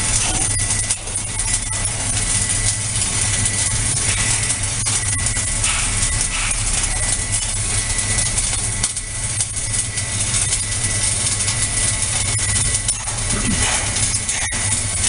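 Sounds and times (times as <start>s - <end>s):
arc welding hiss and crackle: 0.0s - 15.0s
low electrical hum: 0.0s - 15.0s.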